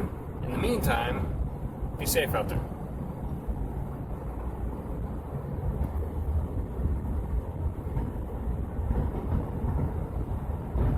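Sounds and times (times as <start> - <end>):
road and tyre rumble: 0.0 - 10.9.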